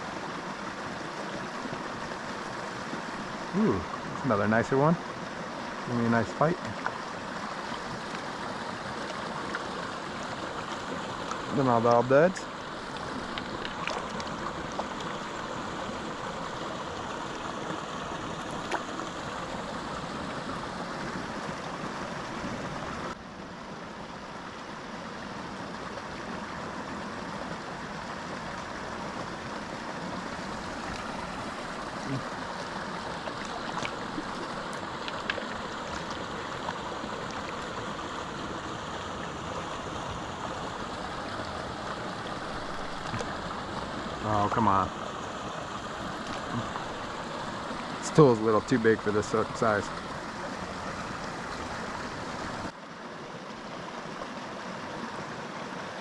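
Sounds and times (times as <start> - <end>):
creek running over rocks: 0.0 - 56.0.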